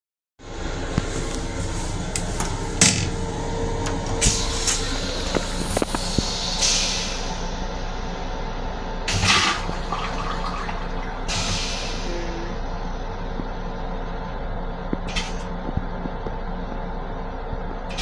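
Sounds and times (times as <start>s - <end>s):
steady low hum: 0.4s - 18.0s.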